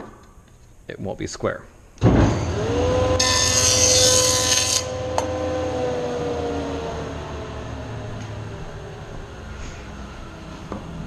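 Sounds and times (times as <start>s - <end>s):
machine whine: 2.0s - 11.0s.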